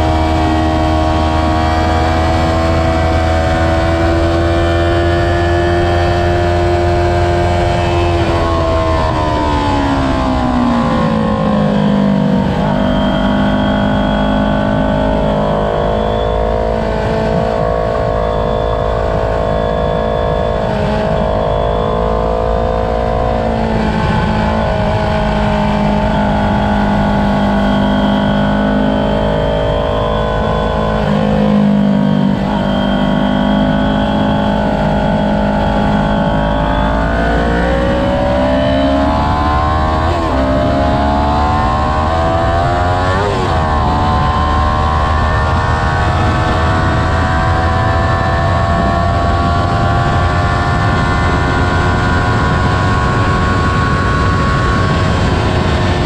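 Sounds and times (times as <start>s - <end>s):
motorcycle engine: 0.0s - 56.0s
wind on microphone: 1.9s - 56.0s.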